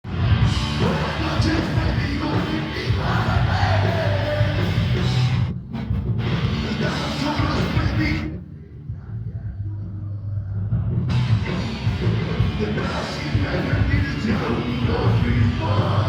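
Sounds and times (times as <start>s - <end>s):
live rock band playing: 0.1s - 8.3s, 11.1s - 16.0s.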